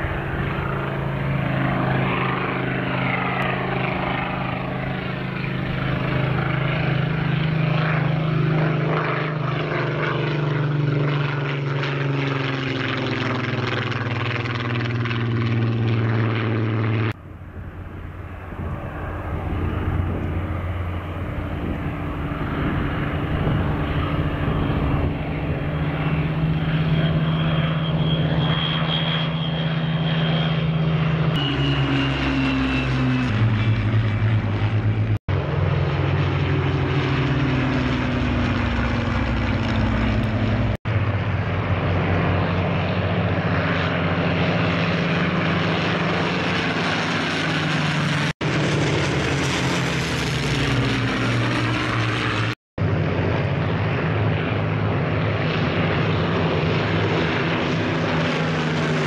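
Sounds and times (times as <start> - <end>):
propeller plane engine flying past: 0.0 - 59.0.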